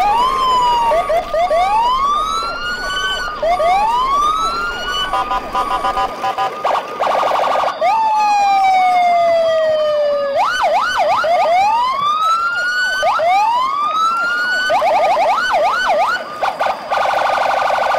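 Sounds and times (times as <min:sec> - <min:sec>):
electronic siren warbling: 0:00.0 - 0:17.9.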